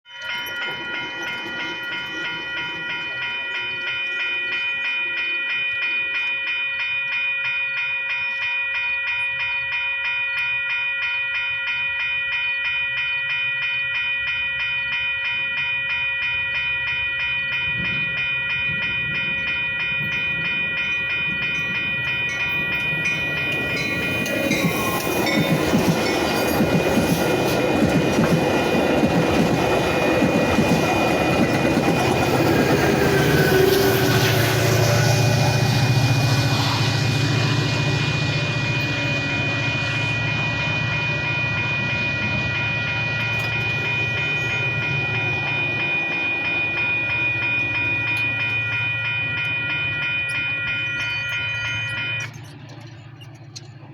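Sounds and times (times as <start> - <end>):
train passing with wheel clatter: 0.1 - 6.4, 14.3 - 53.9
warning bell ringing: 0.1 - 53.9.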